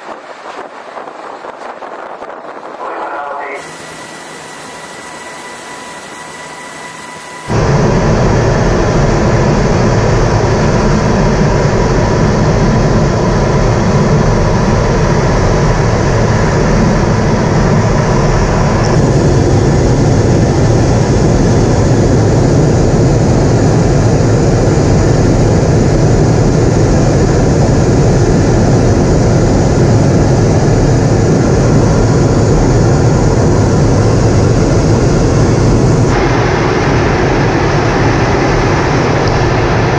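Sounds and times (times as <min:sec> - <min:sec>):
jet aircraft in flight: 0:00.0 - 0:39.9.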